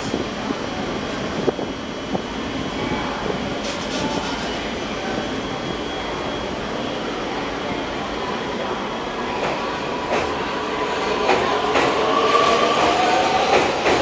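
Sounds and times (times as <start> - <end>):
metro train rushing noise: 0.0 - 14.0
train pulling out: 0.0 - 14.0.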